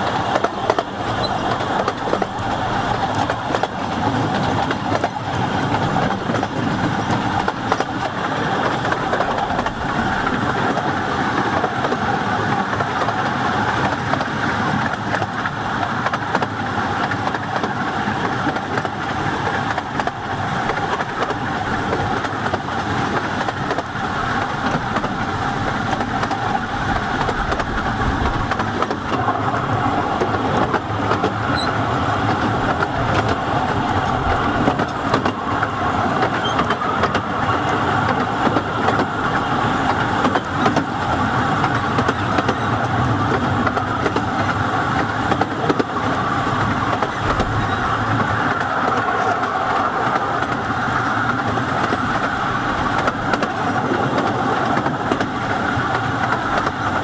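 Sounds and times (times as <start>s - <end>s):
train wheels rattling on rails: 0.0s - 57.0s.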